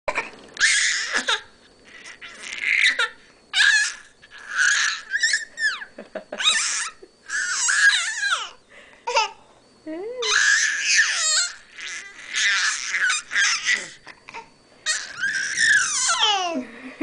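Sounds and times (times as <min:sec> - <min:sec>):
baby squealing: 0:00.6 - 0:08.6, 0:10.2 - 0:16.5.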